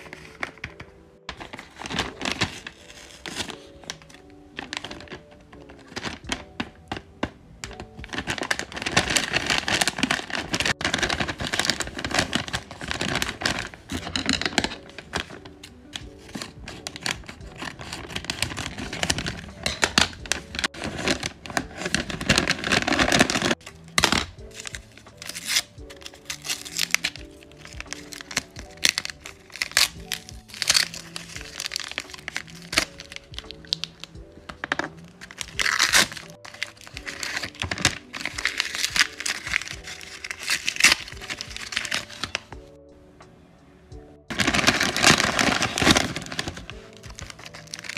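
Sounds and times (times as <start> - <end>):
paper crinkling and tearing: 0.0 - 42.6, 44.3 - 47.9
background music simple melody: 0.0 - 47.9.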